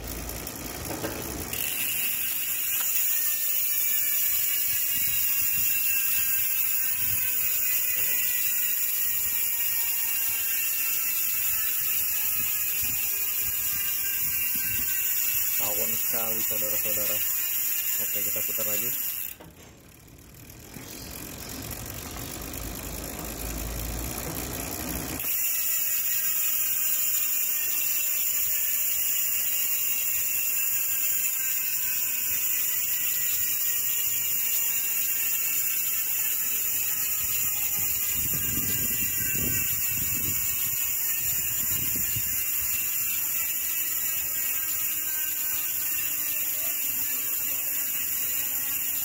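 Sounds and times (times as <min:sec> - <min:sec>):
freehub clicking buzz: 0:00.0 - 0:49.0.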